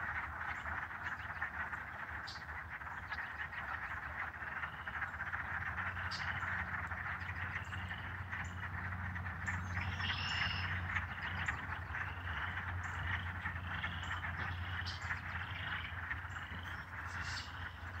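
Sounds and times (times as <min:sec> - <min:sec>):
frogs chorus calling: 0:00.0 - 0:18.0.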